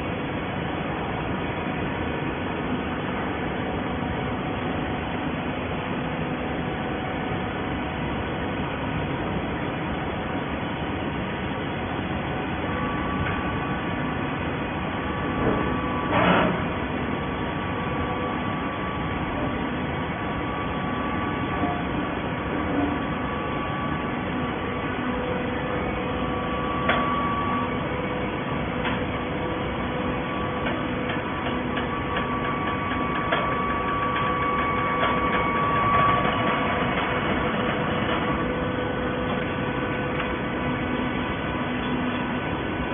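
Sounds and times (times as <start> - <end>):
baler machine drone: 0.0 - 42.9.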